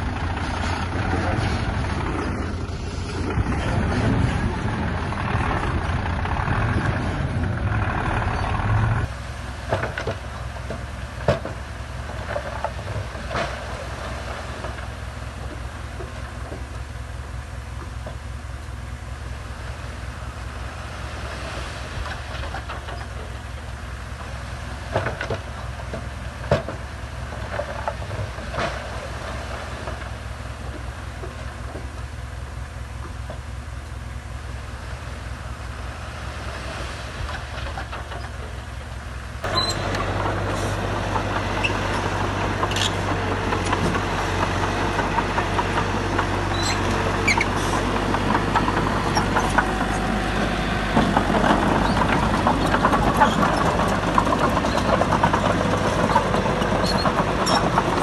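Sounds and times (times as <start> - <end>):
diesel machinery running: 0.0 - 58.0.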